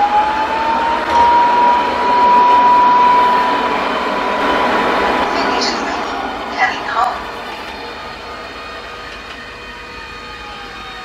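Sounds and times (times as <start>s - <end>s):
vacuum suction fan whine: 0.0s - 11.0s.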